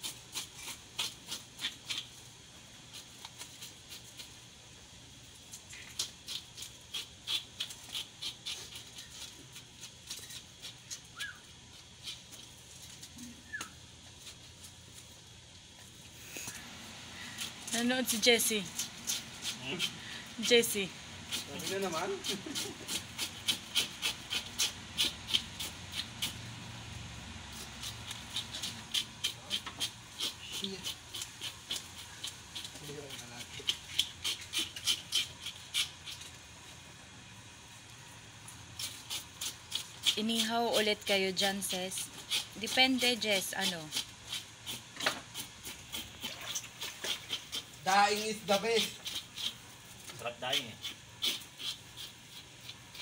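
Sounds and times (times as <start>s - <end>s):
knife scraping fish scales: 0.0s - 2.2s, 5.6s - 13.6s, 16.2s - 26.5s, 27.5s - 36.4s, 38.8s - 53.0s.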